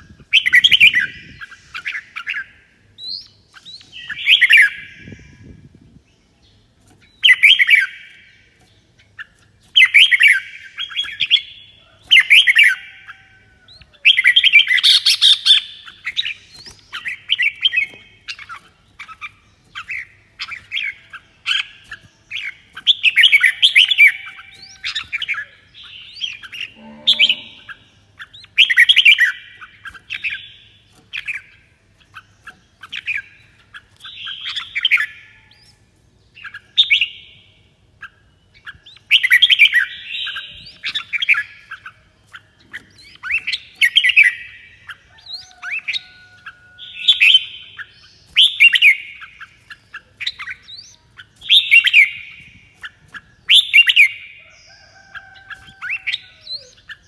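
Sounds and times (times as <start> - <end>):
bird singing warbling phrases: 0.0 - 57.0.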